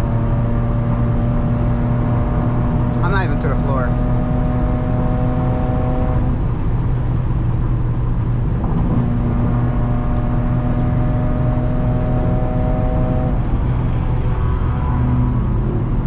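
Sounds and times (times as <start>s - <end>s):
car exhaust drone: 0.0s - 16.0s.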